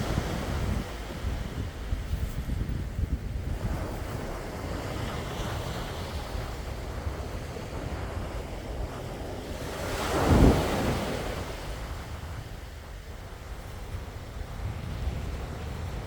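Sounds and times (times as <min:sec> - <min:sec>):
low rumble of surf: 0:00.0 - 0:16.0
sea waves washing ashore: 0:00.0 - 0:16.0
wind on microphone: 0:00.0 - 0:16.0.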